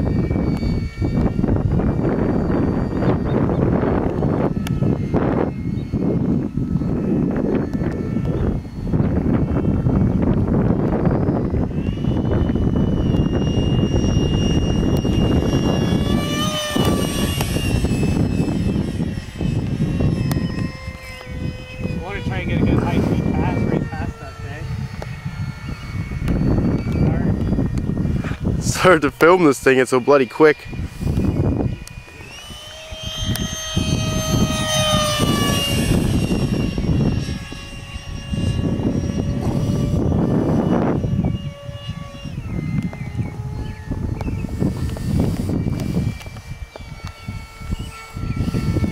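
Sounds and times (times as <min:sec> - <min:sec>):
electric ducted fan whining: 0:00.0 - 0:48.9
wind noise on microphone: 0:00.0 - 0:48.9.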